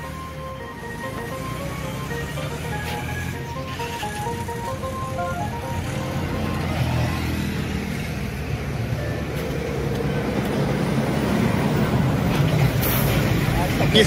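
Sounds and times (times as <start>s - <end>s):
scooter passing: 0.0s - 12.8s
passing motor vehicles: 0.0s - 14.0s.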